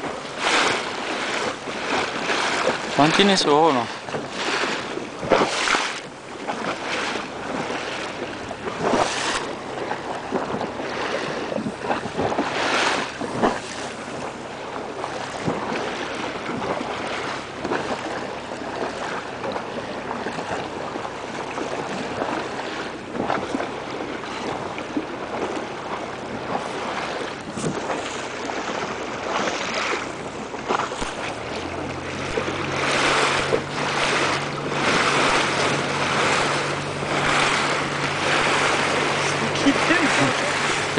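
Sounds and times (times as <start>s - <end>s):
low engine hum: 0.0s - 40.9s
water lapping against boat: 0.0s - 40.9s
wind buffeting microphone: 0.0s - 40.9s.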